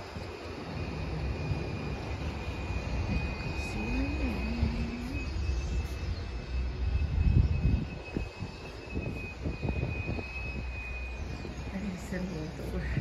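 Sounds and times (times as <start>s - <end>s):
faint steady high tone: 0.0s - 13.0s
wind buffeting microphone: 0.0s - 13.0s.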